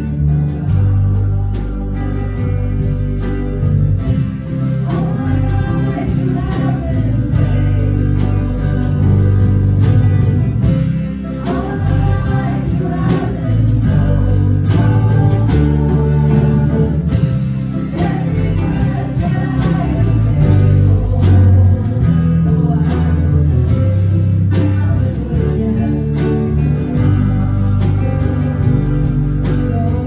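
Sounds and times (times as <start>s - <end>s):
bass: 0.0s - 30.0s
drum kit: 0.0s - 30.0s
keyboard: 0.0s - 30.0s
man singing lead: 0.0s - 30.0s
strummed guitars: 0.0s - 30.0s.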